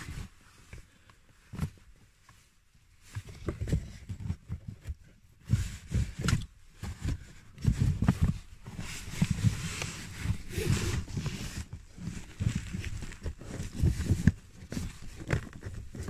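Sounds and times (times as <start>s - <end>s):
filter rustling: 0.0s - 16.0s.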